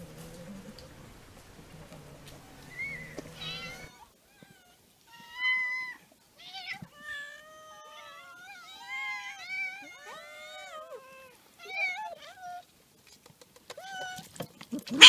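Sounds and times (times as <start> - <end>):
cats meowing: 0.0 - 12.7, 13.7 - 15.0.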